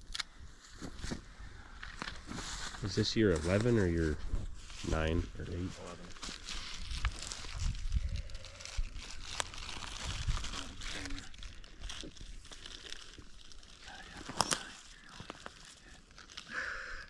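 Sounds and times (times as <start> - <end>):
paper crinkling and rustling: 1.8 - 16.6.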